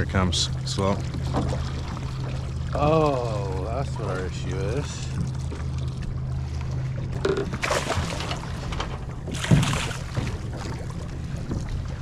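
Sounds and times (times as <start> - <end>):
outboard motor humming: 0.0 - 12.0.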